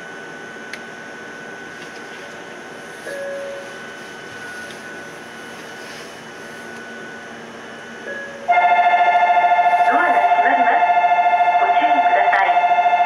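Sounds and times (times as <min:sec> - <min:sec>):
train equipment whirring hum: 0:00.0 - 0:13.0.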